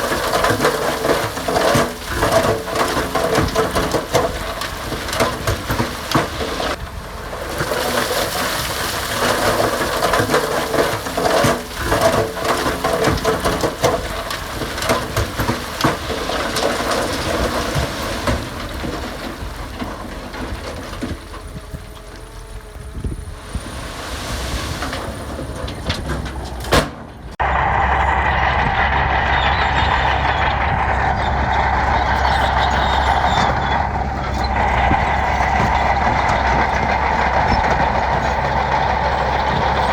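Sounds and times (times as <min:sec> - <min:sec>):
clanking steel: 0:00.0 - 0:22.4, 0:24.7 - 0:39.9
diesel machinery engine: 0:00.0 - 0:39.9.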